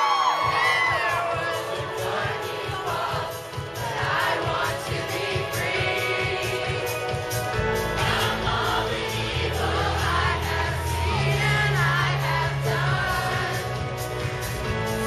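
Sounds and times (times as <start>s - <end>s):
voices singing together: 0.3s - 15.0s
music with bass and beat: 0.4s - 15.0s.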